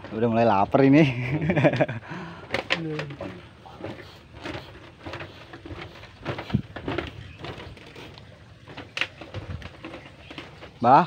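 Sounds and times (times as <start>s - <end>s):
footsteps on bamboo slats: 0.0s - 11.0s.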